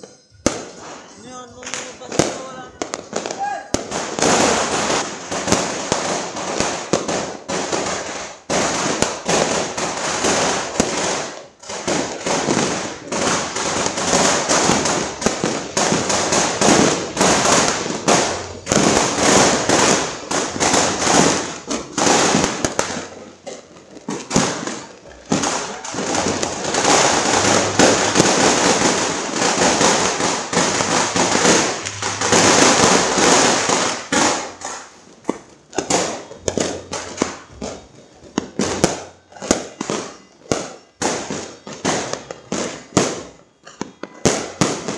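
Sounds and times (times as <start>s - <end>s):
firecrackers crackling and banging: 0.0s - 44.9s.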